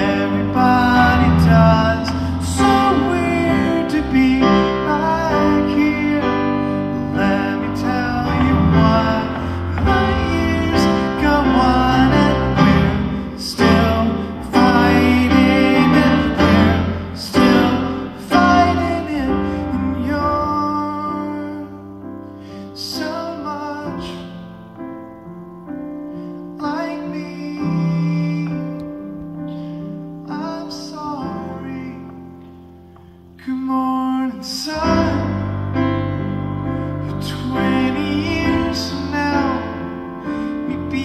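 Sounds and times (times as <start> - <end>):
man singing: 0.0 - 22.0, 22.6 - 24.7, 26.4 - 29.3, 30.2 - 36.3, 37.0 - 41.0
piano chords: 0.0 - 41.0.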